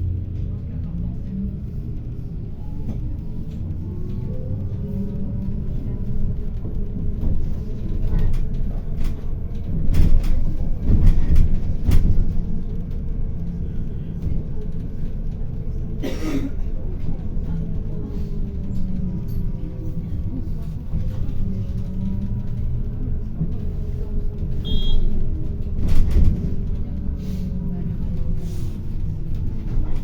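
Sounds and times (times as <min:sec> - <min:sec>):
bus engine rumble: 0:00.0 - 0:30.0.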